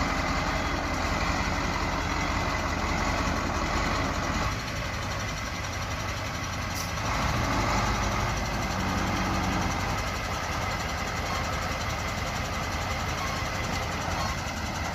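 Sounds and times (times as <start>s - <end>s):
truck diesel engine running: 0.0s - 14.9s.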